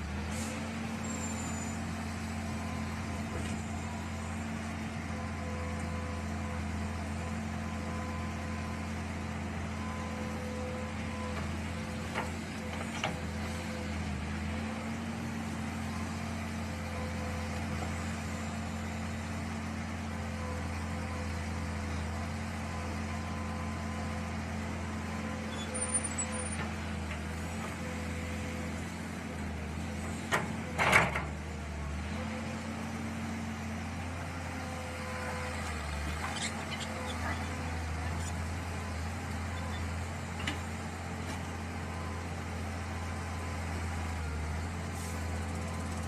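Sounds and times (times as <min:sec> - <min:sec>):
excavator engine running: 0:01.8 - 0:46.0.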